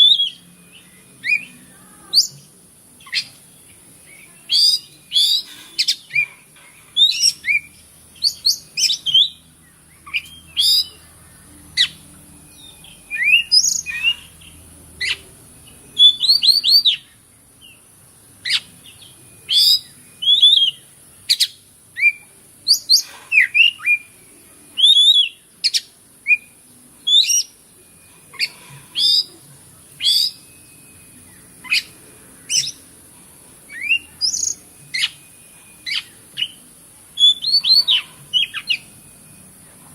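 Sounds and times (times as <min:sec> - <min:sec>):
bird singing whistled chirps: 0:00.0 - 0:06.3, 0:06.9 - 0:33.0, 0:33.6 - 0:39.6.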